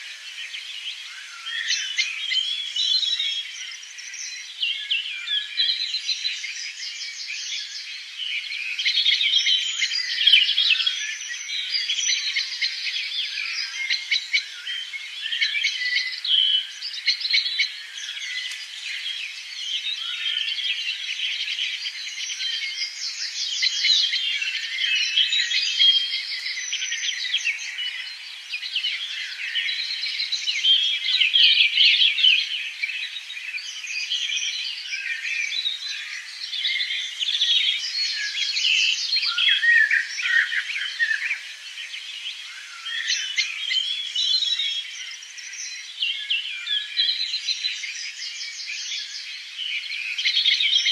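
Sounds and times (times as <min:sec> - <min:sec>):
small birds chirping chorus: 0:00.0 - 0:50.9.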